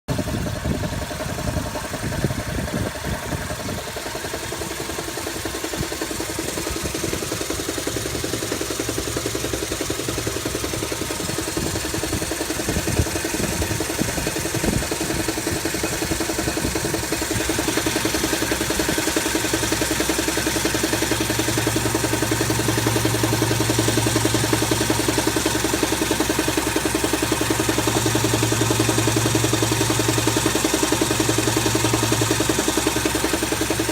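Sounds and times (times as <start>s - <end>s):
car engine running: 0.1s - 33.9s
irregular engine knocking: 0.1s - 33.9s.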